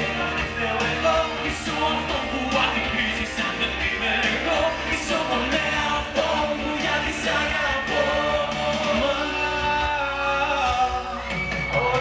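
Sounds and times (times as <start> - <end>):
amplified band with steady beat: 0.0 - 12.0
man singing into microphone: 0.0 - 12.0.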